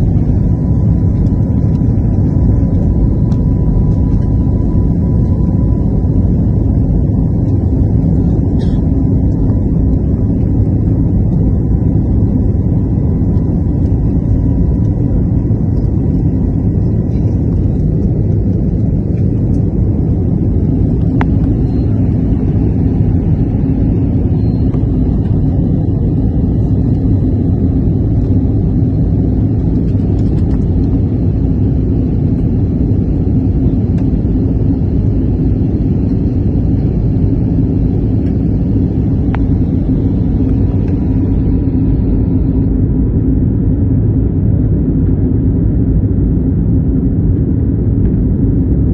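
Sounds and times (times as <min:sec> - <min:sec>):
aircraft cabin engine rumble: 0:00.0 - 0:48.9.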